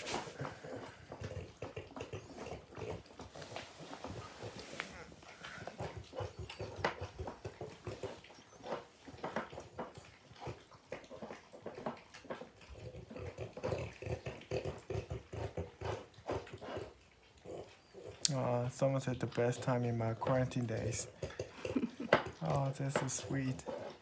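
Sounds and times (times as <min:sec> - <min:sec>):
dogs licking and chewing: 0:00.0 - 0:24.0.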